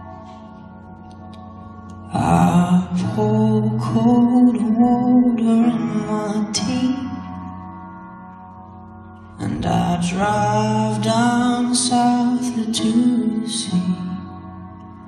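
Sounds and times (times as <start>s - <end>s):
slow song with singing: 0.0s - 15.0s.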